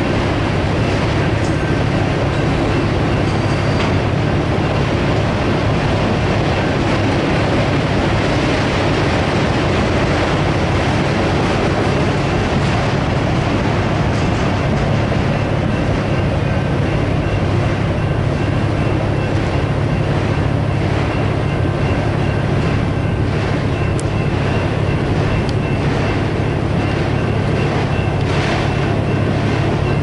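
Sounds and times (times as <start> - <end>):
crossing bell ringing: 0.0 - 30.0
steel wheels rumbling on rails: 0.0 - 30.0.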